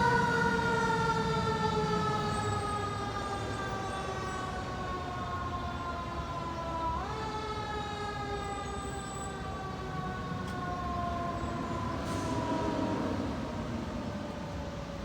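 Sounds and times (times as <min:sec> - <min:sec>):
fire truck siren: 0:00.0 - 0:15.0
low rumble of traffic: 0:00.0 - 0:15.0.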